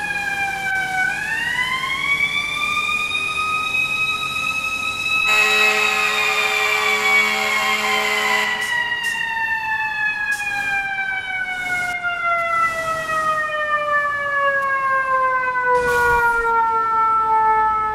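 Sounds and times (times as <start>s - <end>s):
siren falling wail: 0.0s - 17.9s.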